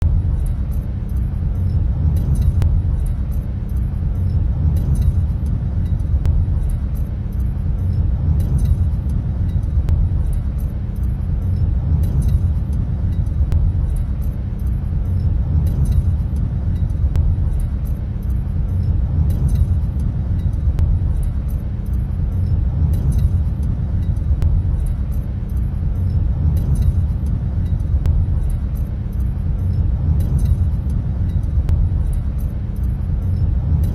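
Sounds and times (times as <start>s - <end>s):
vehicle rumble in tunnel: 0.0s - 33.9s.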